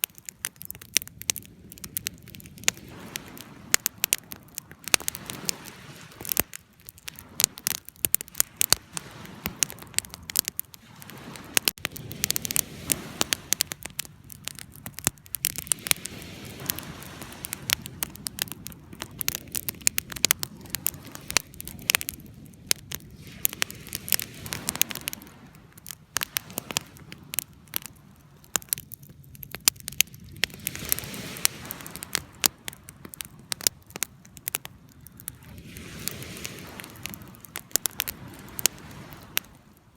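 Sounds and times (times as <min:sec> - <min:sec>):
fire crackling and popping: 0:00.0 - 0:39.9
rushing hiss of flame: 0:01.3 - 0:28.8, 0:29.8 - 0:39.6.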